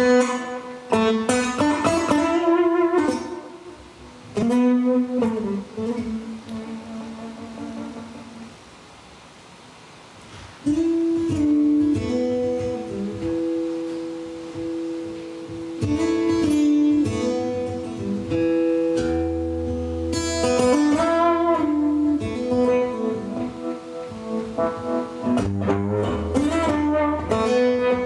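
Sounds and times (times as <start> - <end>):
acoustic guitar chords: 0.0 - 9.0, 10.2 - 28.0.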